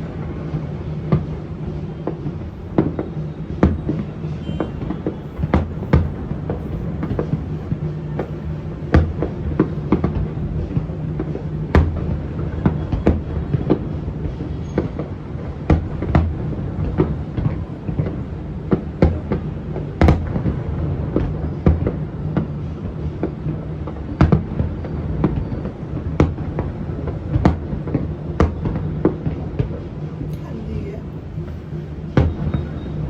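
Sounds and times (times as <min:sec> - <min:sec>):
distant firework bangs rumbling: 0:00.0 - 0:33.0
firecrackers cracking: 0:00.0 - 0:33.0.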